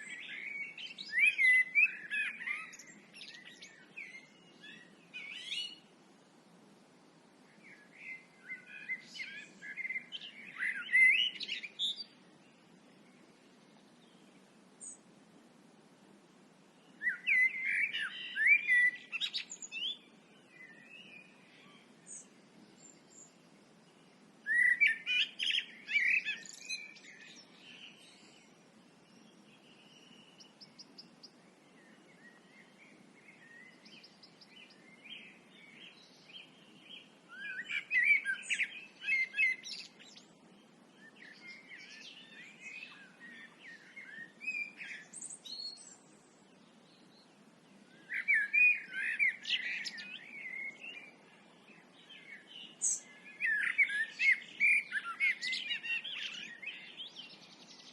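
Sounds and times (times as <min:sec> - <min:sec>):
faint bird chirps: 0:00.0 - 0:06.5, 0:07.4 - 0:15.1, 0:16.6 - 0:57.9
songbirds singing: 0:00.0 - 0:57.9.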